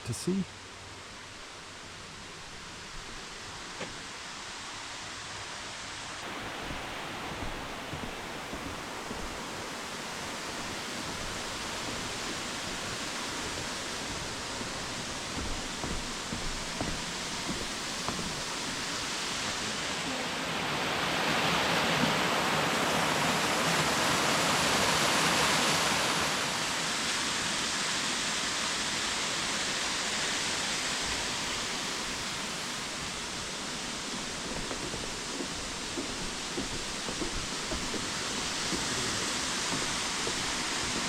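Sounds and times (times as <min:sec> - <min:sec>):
waterfall rushing: 0:00.2 - 0:41.0.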